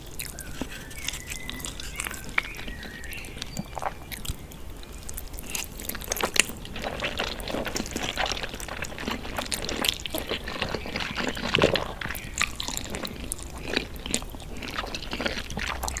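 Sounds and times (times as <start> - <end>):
person chewing and crunching: 0.0 - 16.0.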